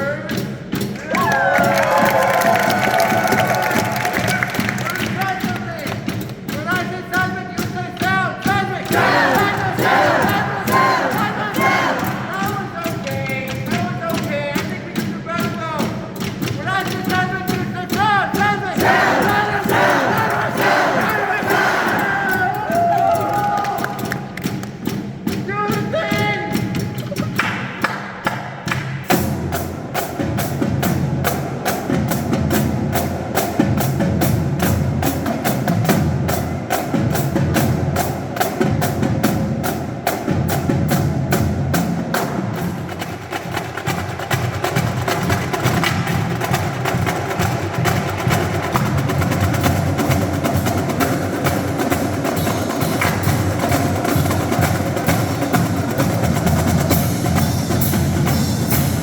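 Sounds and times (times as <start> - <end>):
drumline playing rapid percussion: 0.0 - 59.0.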